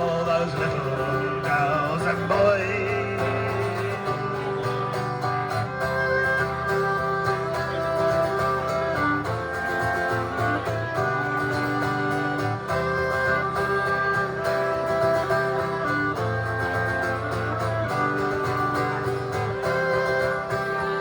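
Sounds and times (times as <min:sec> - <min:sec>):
acoustic guitar playing: 0:00.0 - 0:21.0
melody of long held notes: 0:00.0 - 0:21.0.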